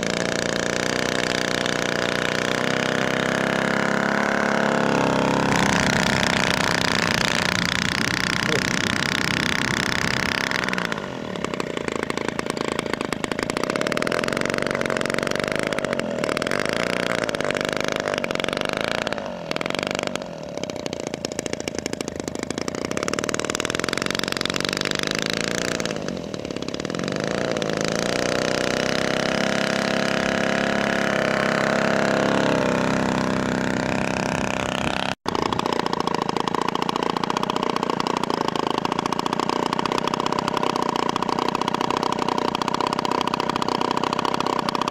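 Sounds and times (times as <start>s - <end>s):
model plane engine running: 0.0s - 28.8s, 30.1s - 44.9s.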